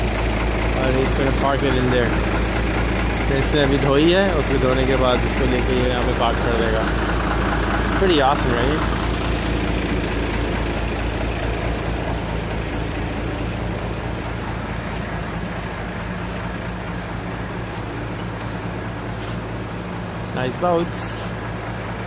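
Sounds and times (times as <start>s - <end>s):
forklift engine humming: 0.0s - 22.0s.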